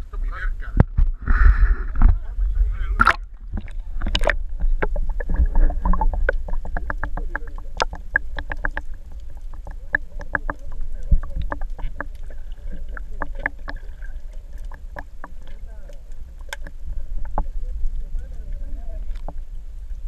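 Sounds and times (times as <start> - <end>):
underwater rumble: 0.0 - 20.0
underwater clicks and ticks: 0.8 - 1.2, 3.0 - 20.0.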